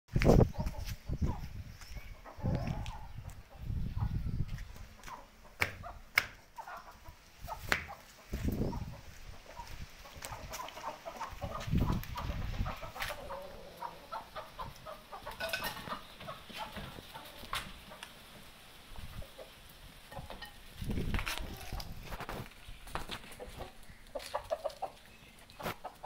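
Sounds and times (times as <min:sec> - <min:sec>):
chickens clucking: 0:00.2 - 0:26.0.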